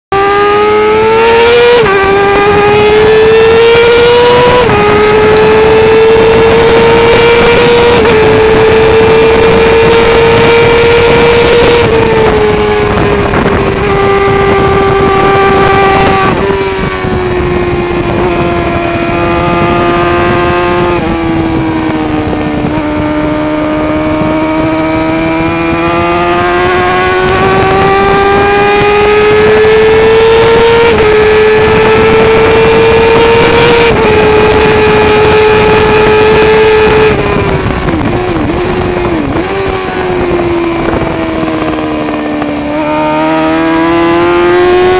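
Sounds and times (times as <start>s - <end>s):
motorcycle engine howling: 0.1s - 44.9s.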